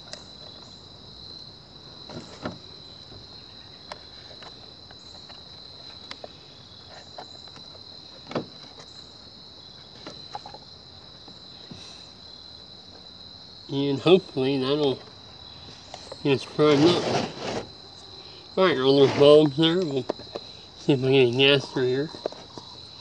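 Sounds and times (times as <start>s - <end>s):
high-pitched insect trill: 0.0s - 23.0s.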